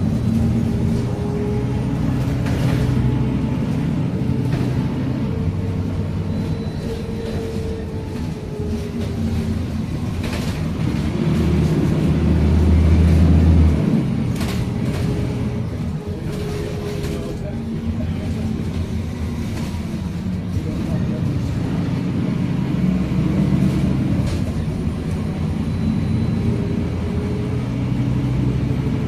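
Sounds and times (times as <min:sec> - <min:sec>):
bus diesel engine droning: 0:00.0 - 0:29.0.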